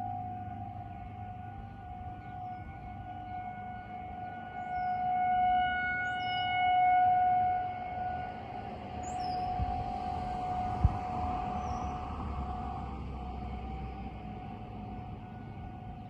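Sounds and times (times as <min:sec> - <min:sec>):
distant warning sirens: 0:00.0 - 0:16.0.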